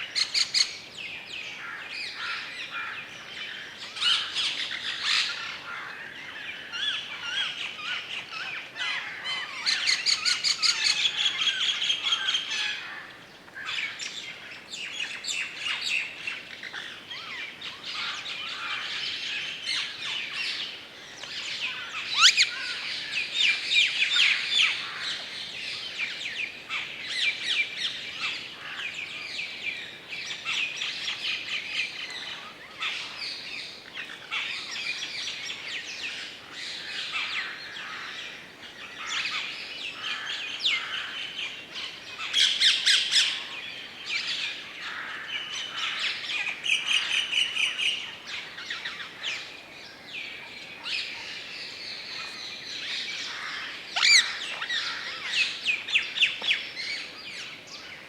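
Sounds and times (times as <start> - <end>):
birds singing and chirping: 0.0 - 58.0.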